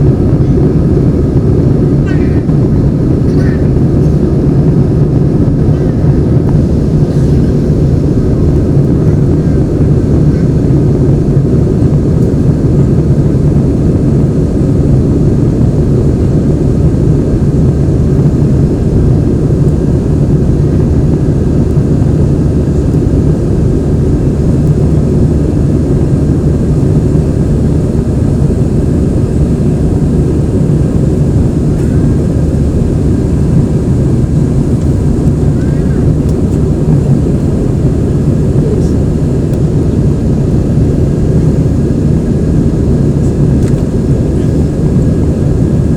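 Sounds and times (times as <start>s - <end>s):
airflow over fuselage: 0.0s - 45.9s
jet engine cabin drone: 0.0s - 45.9s.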